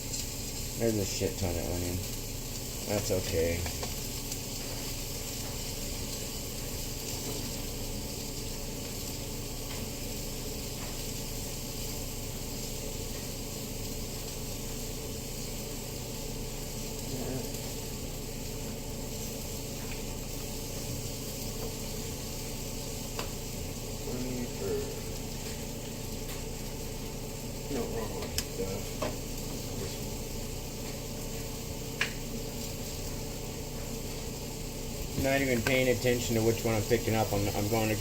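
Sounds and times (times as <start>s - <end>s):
onions sizzling in a pan: 0.0s - 38.0s.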